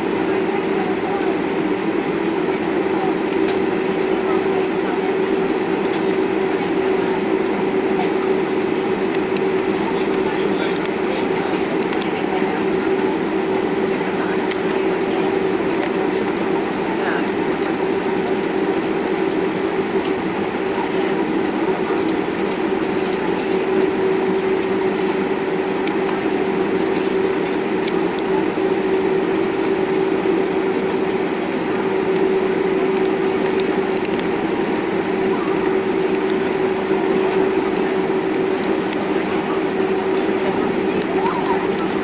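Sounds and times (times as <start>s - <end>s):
jet engines droning: 0.0s - 42.0s.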